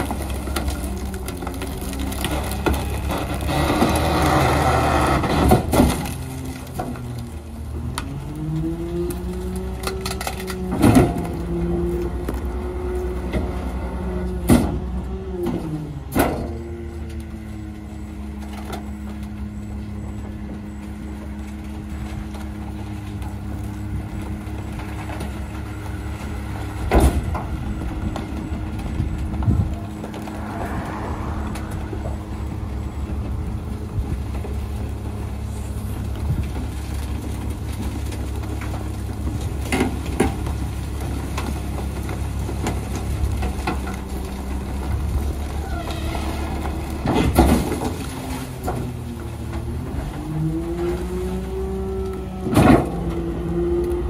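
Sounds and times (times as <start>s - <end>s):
garbage truck running: 0.0s - 54.0s.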